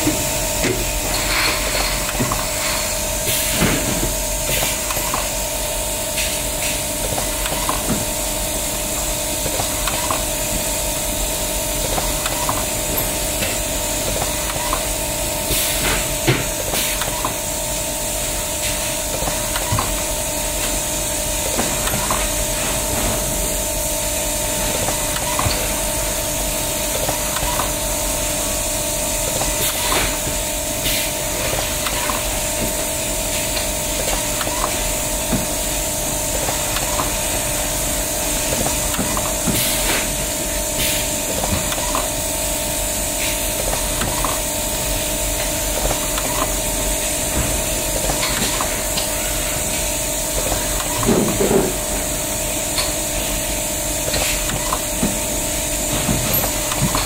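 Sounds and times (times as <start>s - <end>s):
tying machine hiss and hum: 0.0s - 57.0s.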